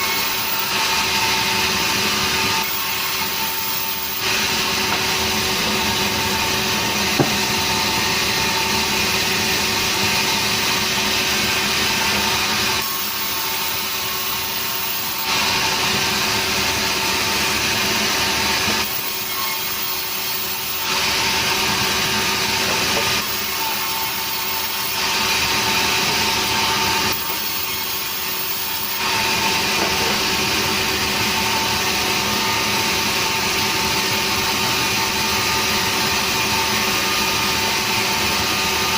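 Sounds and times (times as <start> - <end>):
sawmill saw cutting timber: 0.0 - 38.9.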